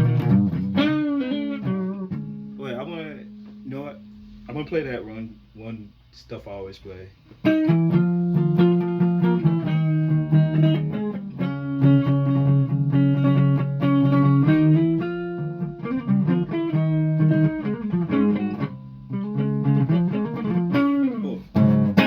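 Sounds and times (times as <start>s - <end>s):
guitar picked melody: 0.0s - 4.7s, 7.3s - 22.0s.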